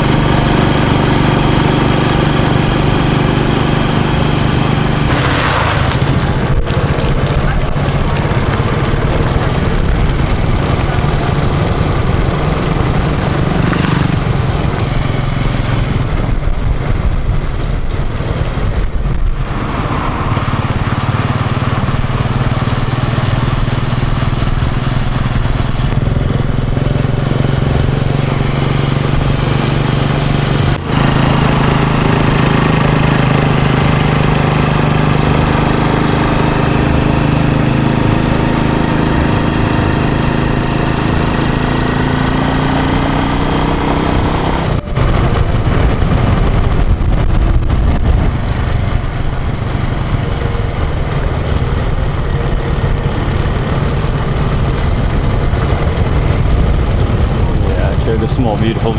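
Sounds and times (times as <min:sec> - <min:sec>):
small motorcycle engine running: 0:00.0 - 0:58.9
wind and road noise: 0:00.0 - 0:58.9.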